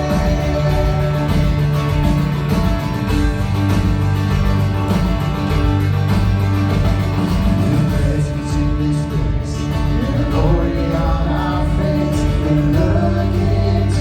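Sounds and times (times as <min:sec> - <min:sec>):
held keyboard chords: 0:00.0 - 0:14.0
strummed acoustic guitar: 0:00.0 - 0:14.0
sustained bass: 0:00.0 - 0:14.0.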